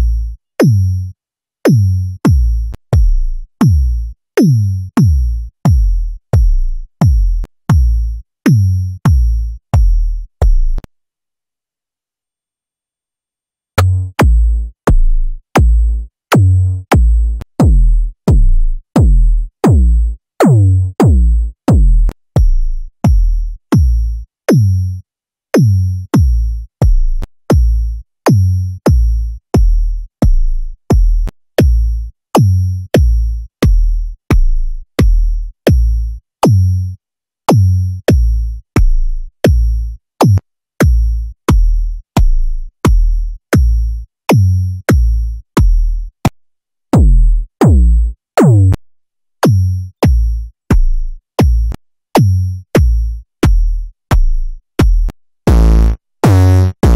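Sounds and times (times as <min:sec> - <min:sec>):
synthesized kick drum thumps: 0:01.7 - 0:10.9, 0:13.8 - 0:24.7, 0:25.6 - 0:36.7, 0:37.5 - 0:46.0, 0:47.0 - 0:48.8, 0:49.4 - 0:56.9.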